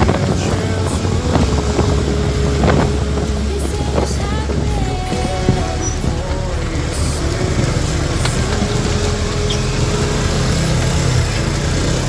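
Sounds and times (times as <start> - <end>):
motorcycle engine running: 0.0 - 12.0
traffic noise: 0.0 - 12.0.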